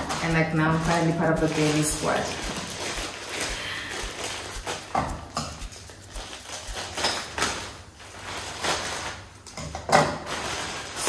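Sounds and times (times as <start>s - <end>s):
plastic bag crinkling: 0.0s - 11.0s
scissors cutting plastic: 0.0s - 11.0s.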